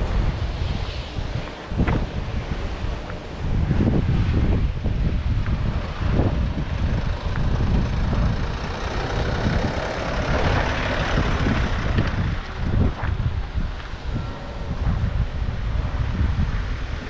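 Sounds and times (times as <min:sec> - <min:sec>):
wind on microphone: 0:00.0 - 0:17.0
vehicle passing: 0:01.8 - 0:16.9.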